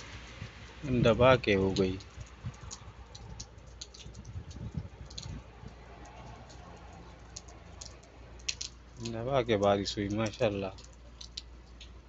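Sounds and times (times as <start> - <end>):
raindrops ticking on surfaces: 0.0 - 12.0.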